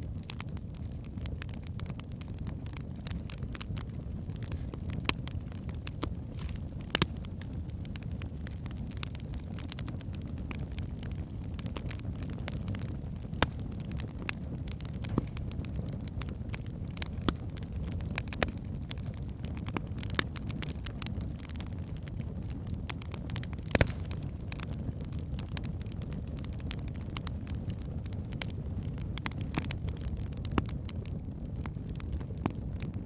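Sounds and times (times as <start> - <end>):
logs crackling and popping: 0.0 - 33.0
low rumble of flames: 0.0 - 33.0.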